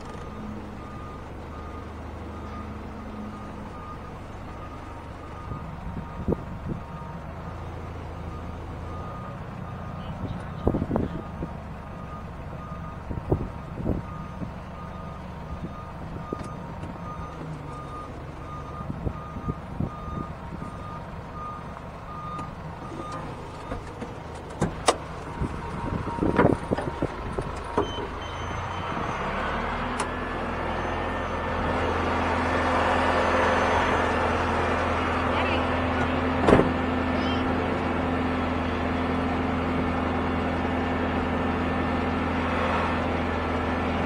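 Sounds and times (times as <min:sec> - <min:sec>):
truck backup alarm beeping: 0:00.0 - 0:44.0
truck engine idling: 0:00.0 - 0:44.0.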